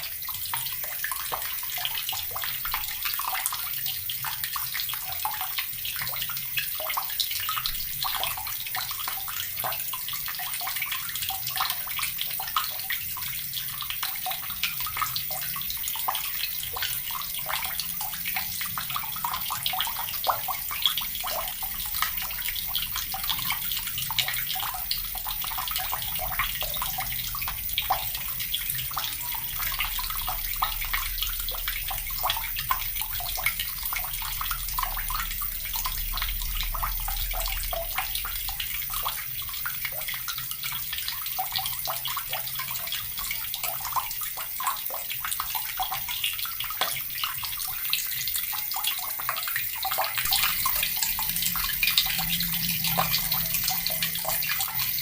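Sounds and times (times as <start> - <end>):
water tap running and splashing: 0.0 - 55.0.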